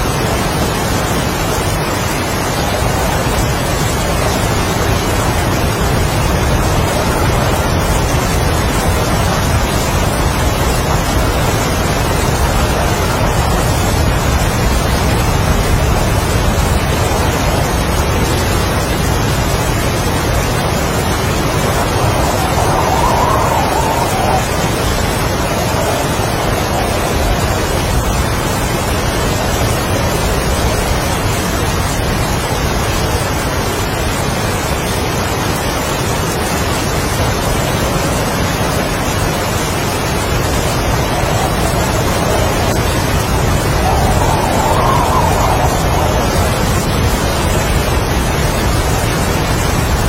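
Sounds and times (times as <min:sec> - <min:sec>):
heavy rain: 0:00.0 - 0:50.0
strong wind howling: 0:00.0 - 0:50.0.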